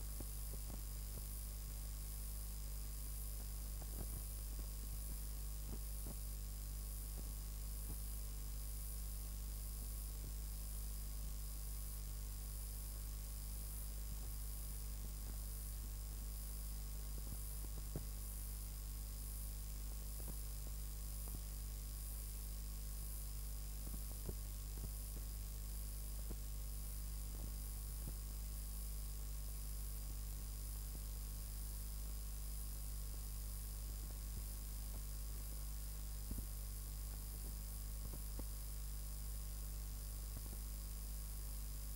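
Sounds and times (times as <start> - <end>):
low electrical hum: 0.0 - 41.9
videotape hiss: 0.0 - 41.9.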